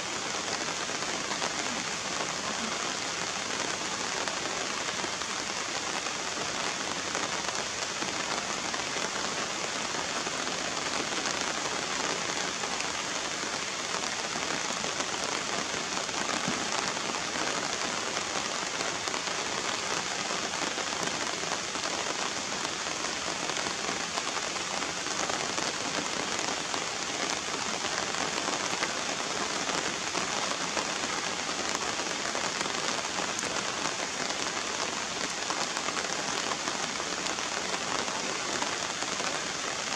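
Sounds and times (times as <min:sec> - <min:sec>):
rain falling on puddles: 0:00.0 - 0:39.9.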